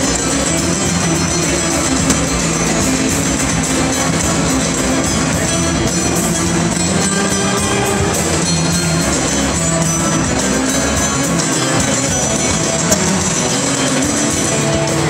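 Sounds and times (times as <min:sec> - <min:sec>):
band accompaniment: 0:00.0 - 0:15.0
plucked lute melody: 0:00.0 - 0:15.0.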